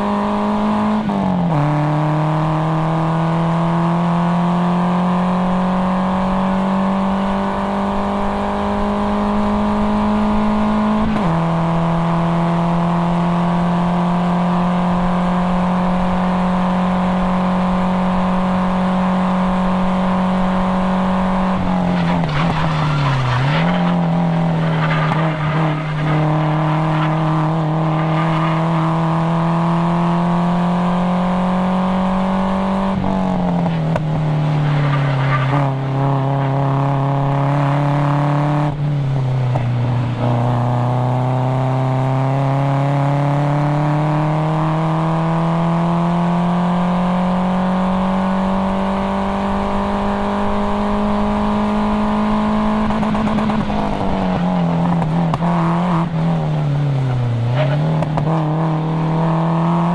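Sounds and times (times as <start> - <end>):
car engine revving under load: 0.0 - 59.9.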